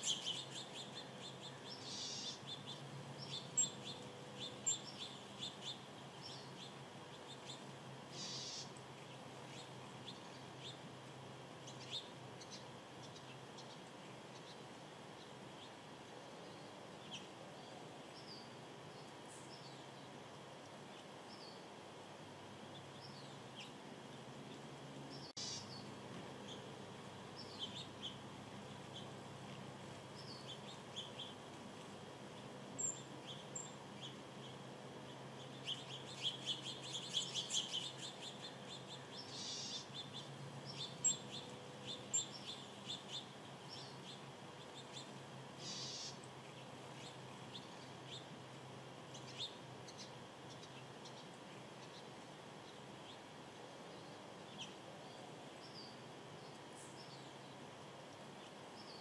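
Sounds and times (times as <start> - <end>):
faint outdoor background noise: 0.0 - 59.0
small birds chirping: 0.0 - 59.0.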